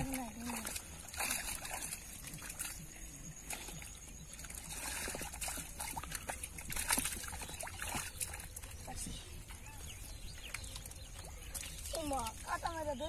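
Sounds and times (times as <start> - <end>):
hands squelching in wet mud: 0.0 - 12.8.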